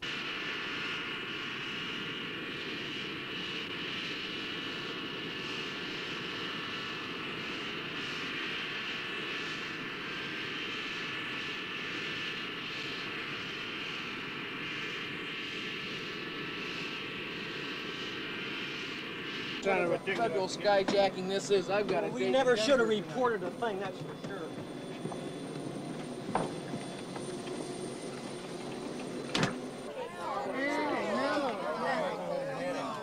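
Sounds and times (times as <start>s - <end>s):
jet engines idling: 0.0s - 33.0s.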